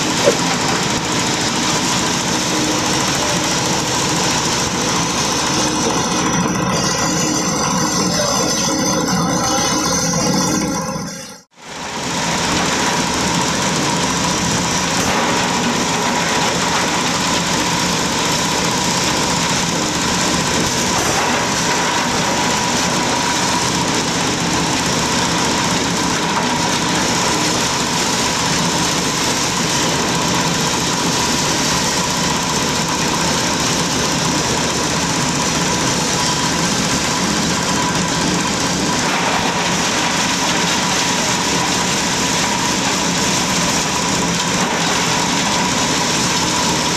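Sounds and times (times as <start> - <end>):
forage chopper shredding plants: 0.0 - 10.9, 11.6 - 46.9.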